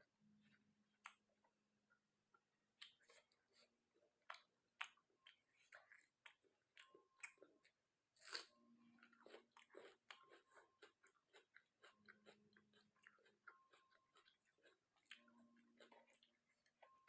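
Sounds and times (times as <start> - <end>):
person chewing food: 1.9 - 17.0.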